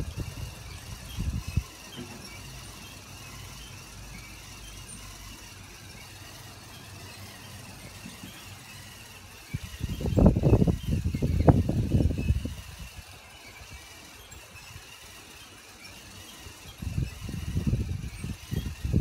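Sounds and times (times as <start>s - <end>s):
small electric motor humming: 0.0s - 19.0s.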